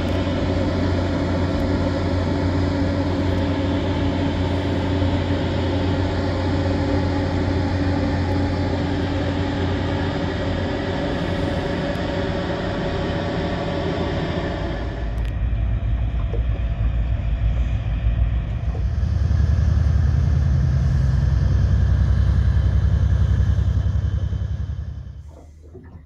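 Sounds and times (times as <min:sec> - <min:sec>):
towboat diesel engines rumbling: 0:00.0 - 0:25.8.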